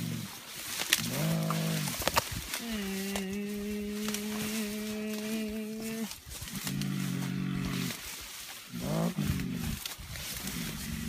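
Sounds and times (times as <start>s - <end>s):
deep humming grunts: 0.0s - 0.4s, 1.0s - 8.1s, 8.7s - 11.0s.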